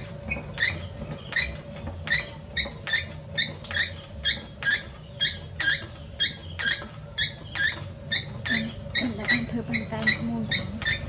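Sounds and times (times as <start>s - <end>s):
potter's wheel squeaking: 0.0s - 11.0s.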